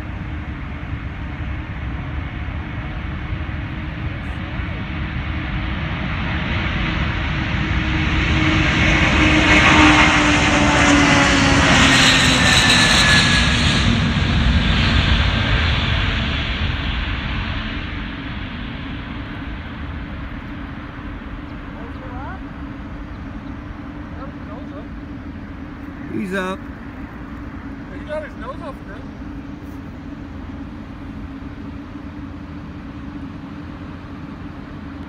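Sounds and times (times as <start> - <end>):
jet engine whine: 0.0 - 35.0
jet engines rumbling: 0.0 - 35.0.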